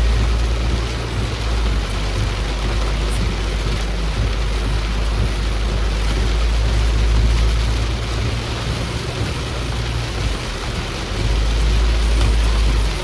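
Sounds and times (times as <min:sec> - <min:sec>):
rain and water spray hissing: 0:00.0 - 0:13.0
vehicle low rumble: 0:00.0 - 0:13.0.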